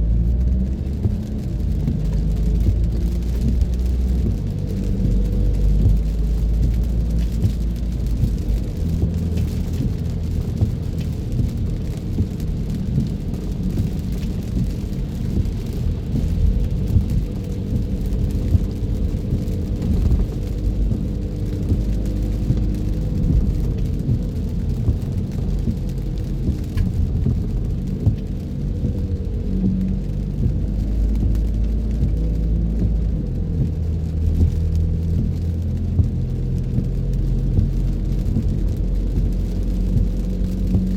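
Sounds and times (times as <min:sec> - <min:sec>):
engine and tyres on wet road: 0:00.0 - 0:40.9
rain hiss: 0:00.0 - 0:40.9.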